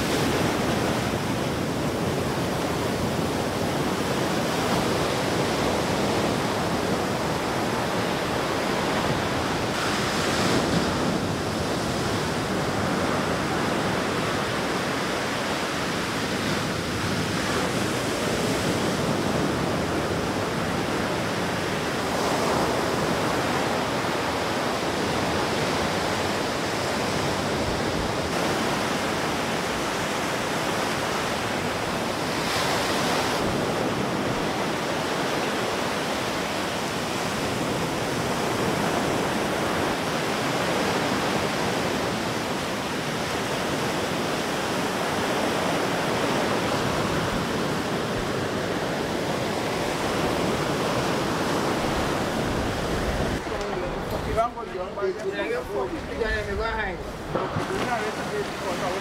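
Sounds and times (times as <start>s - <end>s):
rush of wind and water: 0.0s - 59.0s.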